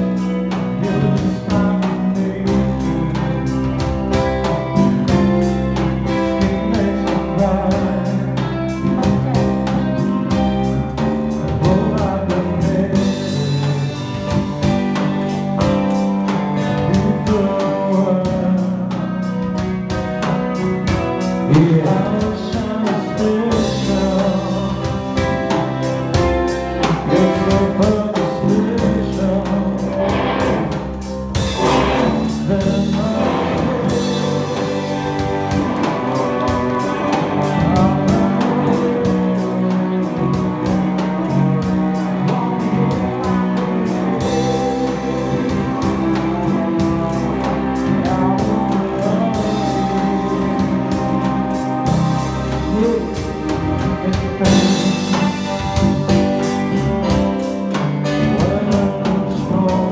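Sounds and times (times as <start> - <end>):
live band playing: 0.0 - 59.9
person singing: 0.0 - 59.9
steady drumbeat: 0.0 - 59.9.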